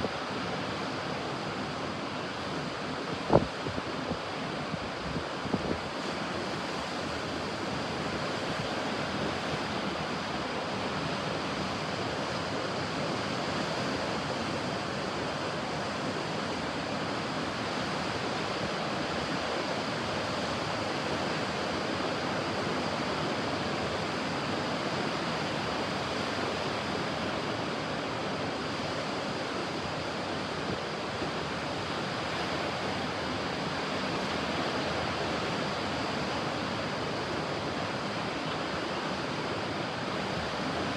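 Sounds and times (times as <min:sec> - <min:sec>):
ocean surf washing onto beach: 0:00.0 - 0:40.9.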